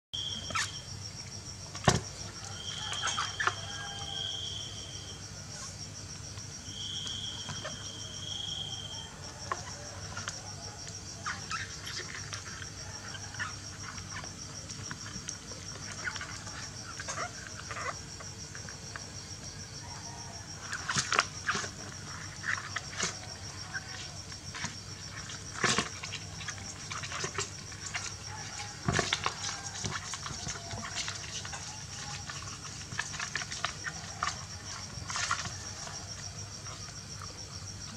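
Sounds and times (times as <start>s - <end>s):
cricket chirping: 0.2s - 37.9s.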